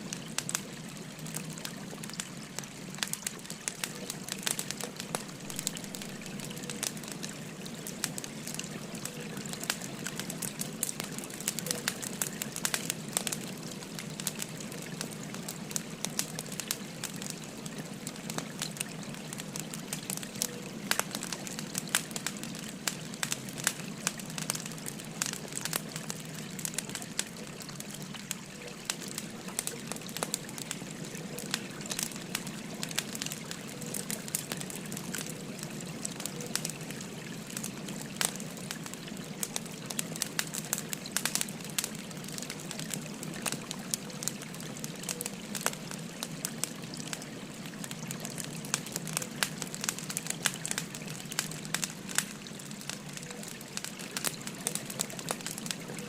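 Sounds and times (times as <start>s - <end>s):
firewood crackling and popping: 0.0s - 56.0s
stream flowing: 0.0s - 56.0s.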